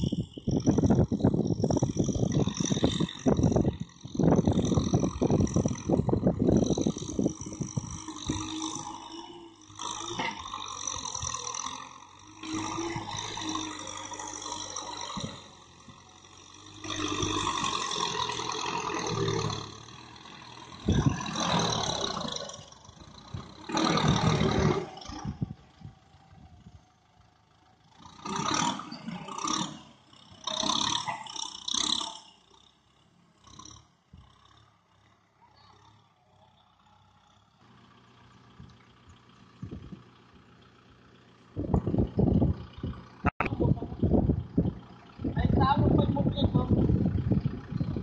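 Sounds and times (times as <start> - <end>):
tractor engine with tiller clatter: 0.0 - 48.0.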